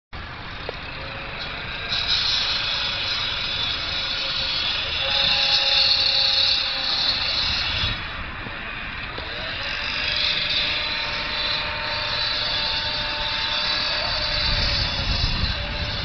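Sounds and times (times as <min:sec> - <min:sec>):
distant engines droning: 0:00.2 - 0:16.0.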